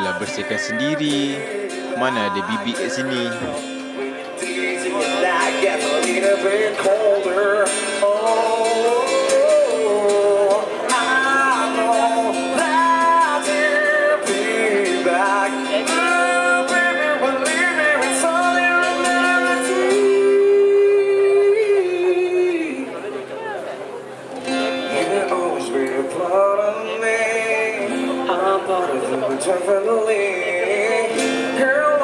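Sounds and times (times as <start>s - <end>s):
man singing slow song: 0.0s - 23.0s, 24.7s - 32.0s
acoustic guitar: 0.0s - 32.0s.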